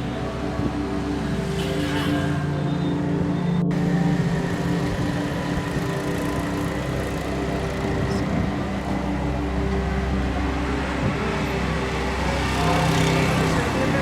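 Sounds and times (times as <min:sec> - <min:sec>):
road and traffic noise: 0:00.0 - 0:14.0
vehicle engine running: 0:00.0 - 0:14.0.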